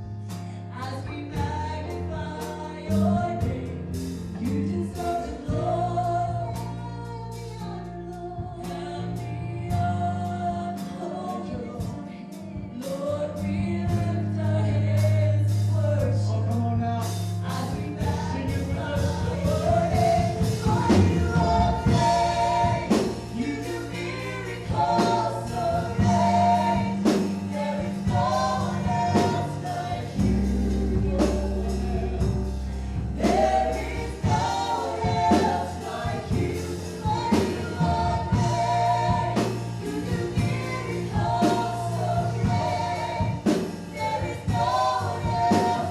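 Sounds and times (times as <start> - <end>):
gospel band with bass and drums: 0.0 - 45.9
choir singing: 0.9 - 14.0, 17.6 - 45.9.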